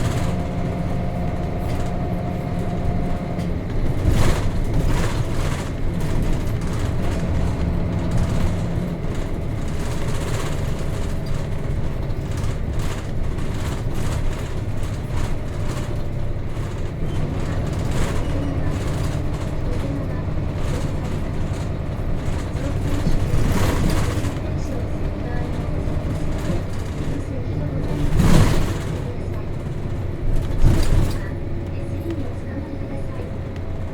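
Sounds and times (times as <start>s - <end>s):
bus engine drone: 0.0s - 33.9s
light rattles: 0.0s - 33.9s
road noise: 0.0s - 33.9s.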